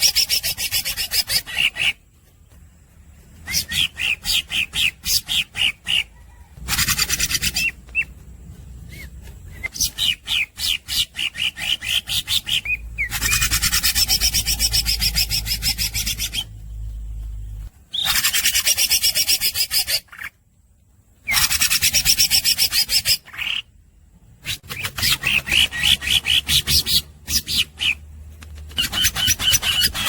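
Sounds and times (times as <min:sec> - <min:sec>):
bird chirping and trilling: 0:00.0 - 0:02.6, 0:03.2 - 0:20.4, 0:21.2 - 0:23.8, 0:24.4 - 0:28.1, 0:28.7 - 0:30.0.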